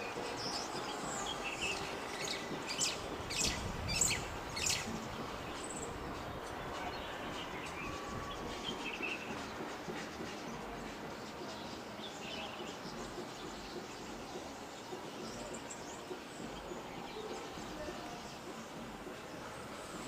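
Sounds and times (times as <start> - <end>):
outdoor air hiss: 0.0 - 20.0.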